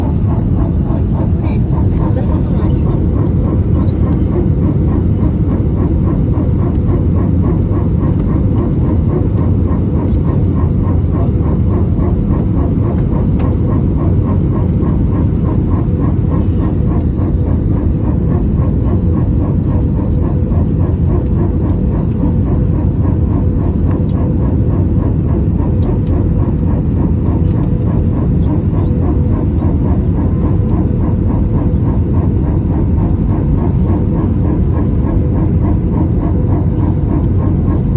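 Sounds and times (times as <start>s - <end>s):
airliner cabin rumble: 0.0s - 37.9s
regular pulsing sound: 0.0s - 37.9s
steady hum: 0.0s - 37.9s.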